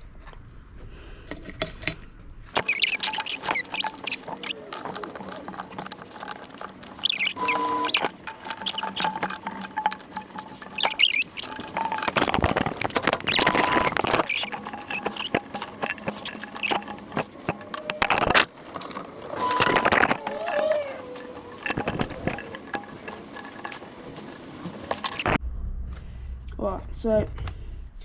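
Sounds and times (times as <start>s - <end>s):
pliers and plastic parts scraping: 2.6s - 25.4s
rubber fuel line squeaks: 2.6s - 25.4s.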